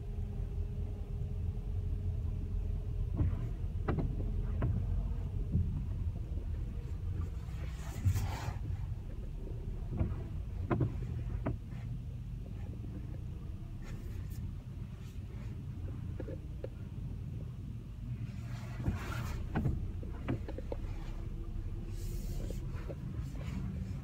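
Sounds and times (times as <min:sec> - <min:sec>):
car driving over snow: 0:03.0 - 0:24.0.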